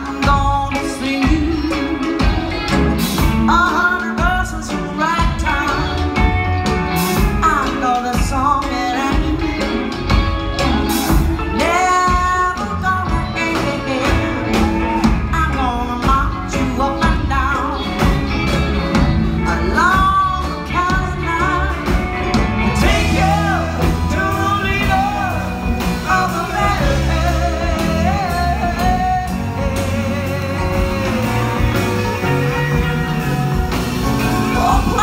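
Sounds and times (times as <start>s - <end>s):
live country-rock band: 0.0s - 35.0s
person singing: 0.0s - 35.0s.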